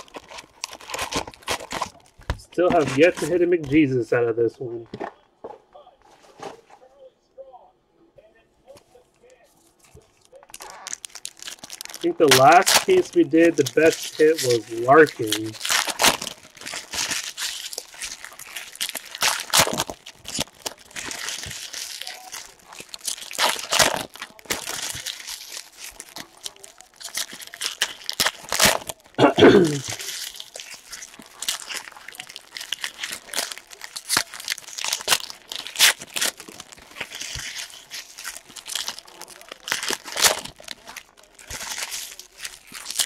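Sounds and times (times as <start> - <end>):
wrappers crinkling and tearing: 0.0 - 4.8, 9.2 - 43.0
cards rustling: 0.0 - 5.2, 8.7 - 43.0.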